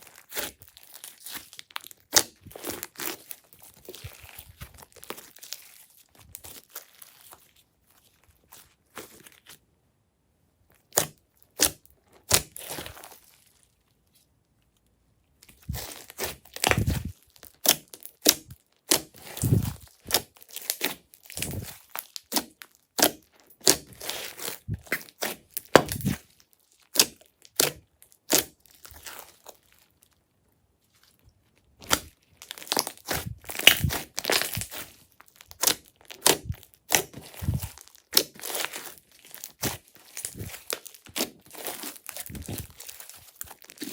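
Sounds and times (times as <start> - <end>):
slime squished by hand: 0.0 - 9.6, 10.8 - 13.7, 15.4 - 29.8, 31.8 - 43.9.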